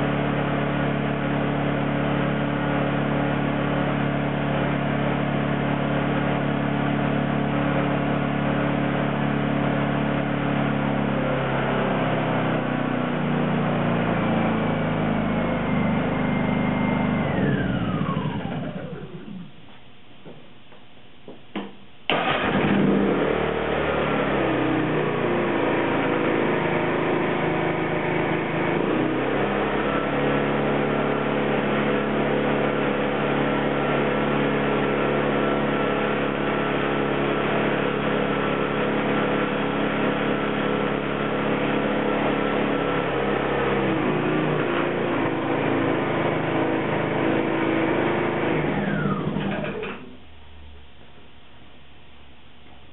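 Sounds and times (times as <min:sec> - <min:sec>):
generator engine running: 0:00.0 - 0:20.8, 0:21.6 - 0:51.2.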